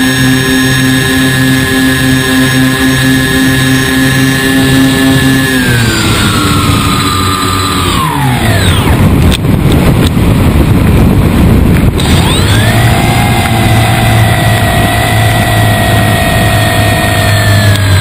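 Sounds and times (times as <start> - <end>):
model plane motor whine: 0.0 - 18.0.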